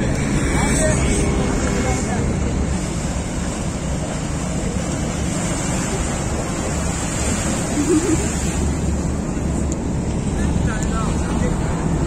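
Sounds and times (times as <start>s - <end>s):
water washing: 0.0s - 12.0s.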